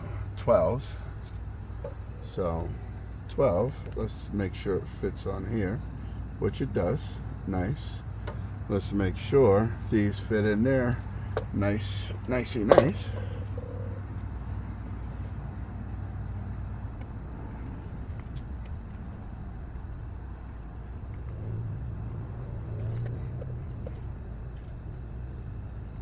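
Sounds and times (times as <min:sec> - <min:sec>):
faint outdoor ambience: 0:00.0 - 0:26.0
low background rumble: 0:00.0 - 0:26.0.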